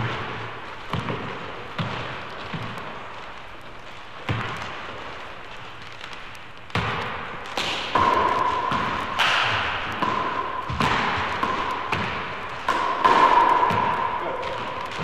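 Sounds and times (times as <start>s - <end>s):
ball bouncing in indoor court: 0.0s - 15.0s.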